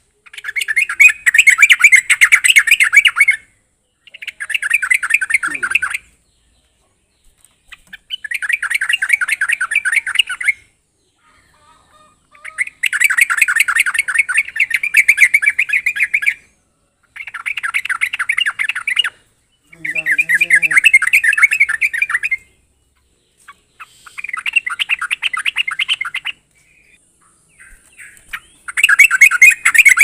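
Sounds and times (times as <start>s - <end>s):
bulbul singing: 0.0s - 30.0s.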